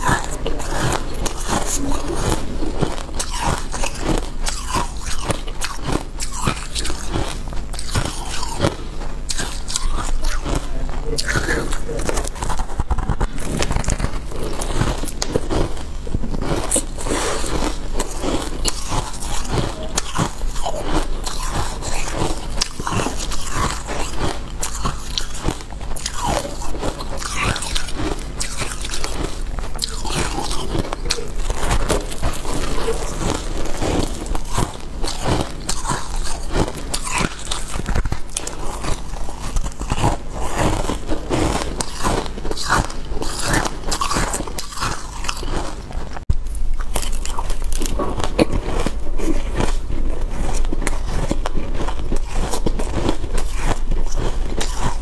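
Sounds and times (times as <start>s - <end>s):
crunching and chewing frost: 0.0s - 55.0s.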